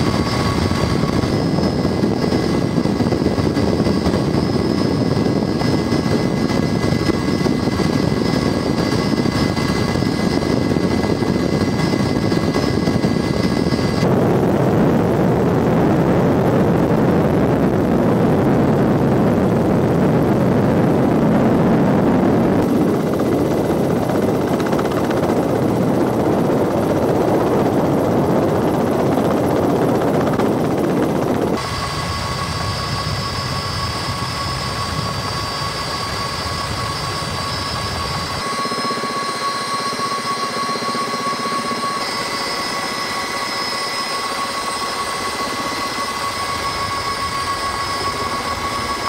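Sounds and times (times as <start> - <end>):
helicopter rotor and engine noise: 0.0 - 49.0
high turbine whine: 0.0 - 49.0.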